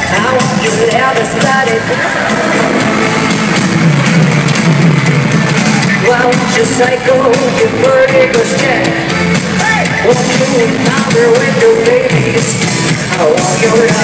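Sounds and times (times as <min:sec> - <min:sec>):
person singing lead vocal: 0:00.0 - 0:04.0, 0:05.4 - 0:14.0
live pop band playing: 0:00.0 - 0:14.0.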